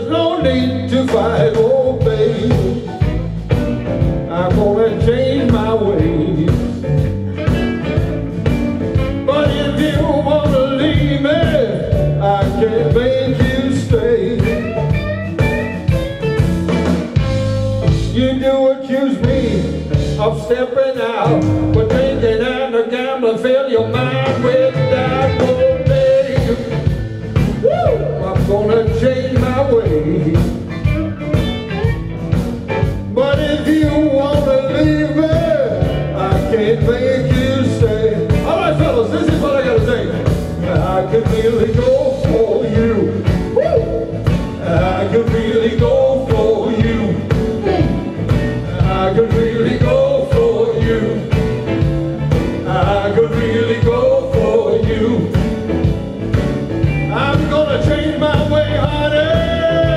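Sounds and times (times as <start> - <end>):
man singing: 0.0 - 15.4, 17.0 - 59.9
live blues band playing: 0.0 - 59.9.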